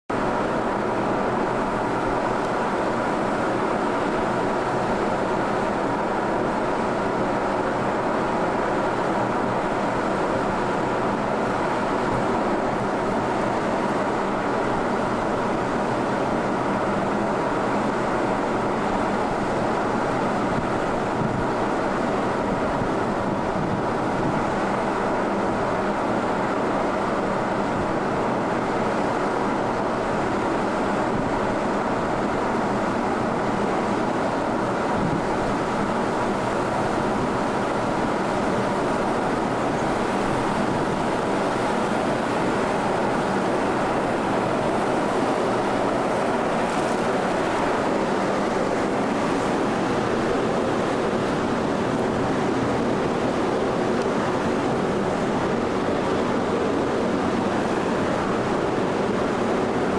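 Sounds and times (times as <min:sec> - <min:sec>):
ship engine drone: 0:00.1 - 0:59.9.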